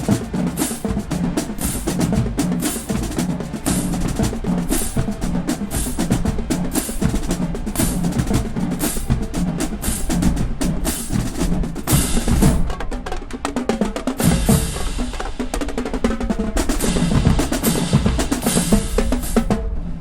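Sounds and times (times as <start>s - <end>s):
pitched bass drums: 0.0s - 12.9s, 14.2s - 19.6s
drum rim and stick clicks: 0.0s - 19.6s
snare drum rolls: 0.0s - 20.0s.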